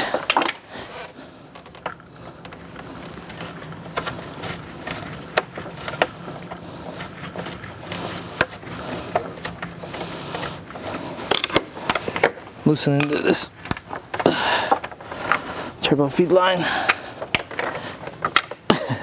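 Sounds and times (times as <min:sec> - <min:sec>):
steady low hum: 0:00.0 - 0:19.0
hand tools clicking and rattling: 0:01.6 - 0:15.5, 0:16.5 - 0:19.0.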